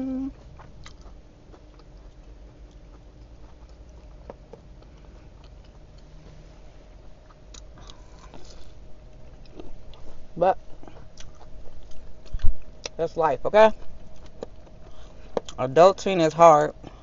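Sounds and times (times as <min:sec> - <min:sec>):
faint steady hum: 0:00.0 - 0:17.0
person chewing food: 0:00.2 - 0:13.0, 0:13.7 - 0:15.6.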